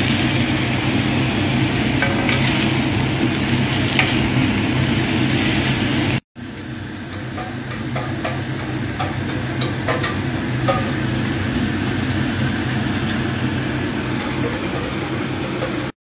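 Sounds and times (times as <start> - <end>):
food sizzling in a wok: 0.0 - 15.8
extractor fan hum: 0.0 - 15.9.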